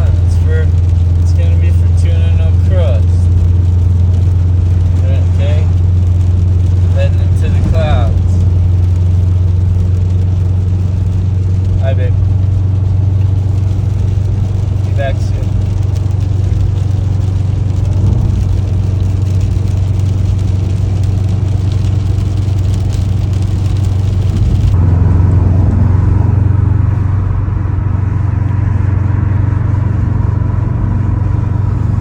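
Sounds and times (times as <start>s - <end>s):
car engine droning: 0.0s - 32.0s
road noise: 0.0s - 32.0s.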